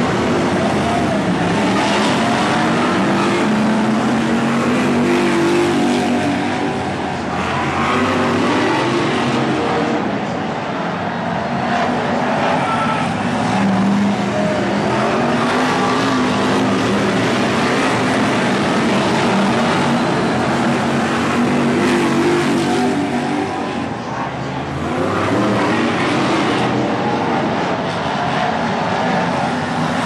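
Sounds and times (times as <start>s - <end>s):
race car engines racing past: 0.0s - 30.0s.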